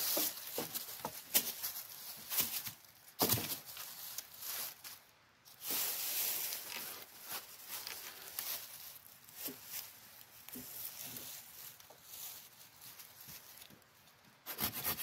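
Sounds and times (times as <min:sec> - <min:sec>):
dry leaves rustling: 0:00.0 - 0:14.2.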